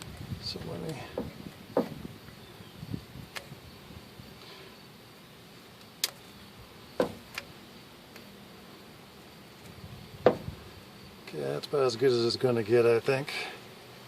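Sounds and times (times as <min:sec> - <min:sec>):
low steady background: 0:00.0 - 0:14.0.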